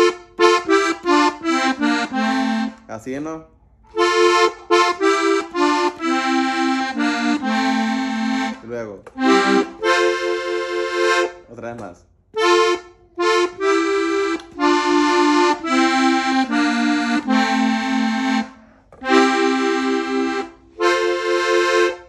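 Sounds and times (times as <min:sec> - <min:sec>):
button accordion melody: 0:00.0 - 0:03.1, 0:03.8 - 0:22.0.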